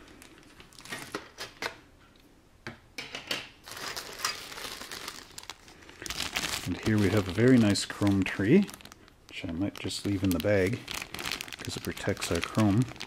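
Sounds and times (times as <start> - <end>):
plastic bags crinkling: 0.0 - 1.6, 3.6 - 13.0.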